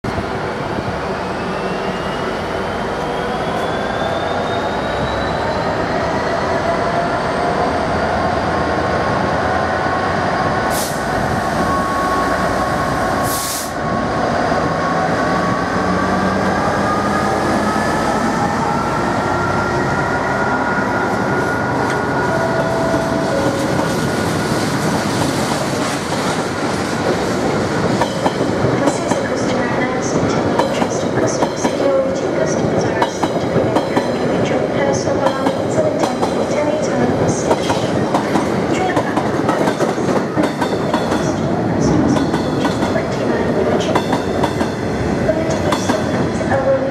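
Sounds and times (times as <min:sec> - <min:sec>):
train rolling rumble: 0:00.0 - 0:46.9.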